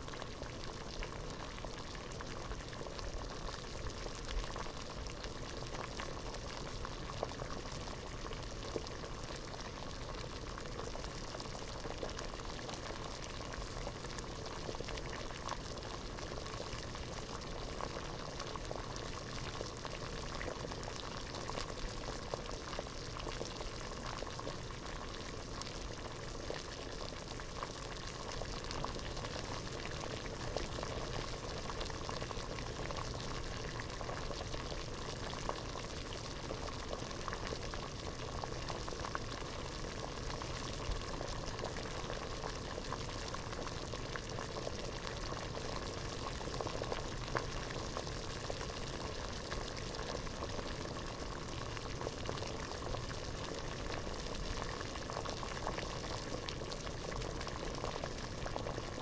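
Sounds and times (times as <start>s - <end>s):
water boiling in a pot: 0.0s - 59.0s.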